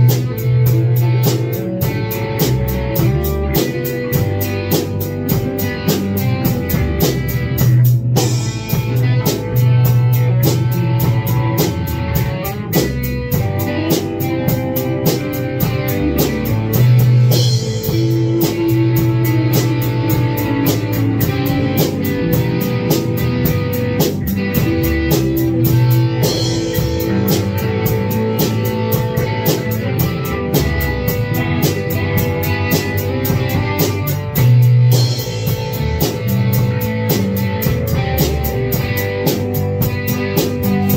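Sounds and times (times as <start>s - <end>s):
drum kit beat: 0.0s - 40.9s
electric guitars playing: 0.0s - 40.9s.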